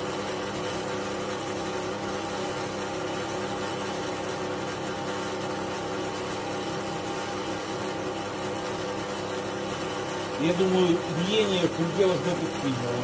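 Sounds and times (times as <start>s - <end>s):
drill press motor humming: 0.0s - 13.0s.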